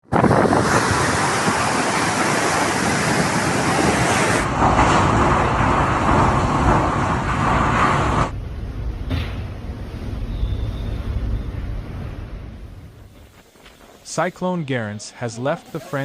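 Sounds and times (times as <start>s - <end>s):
storm wind and rain: 0.0s - 14.4s.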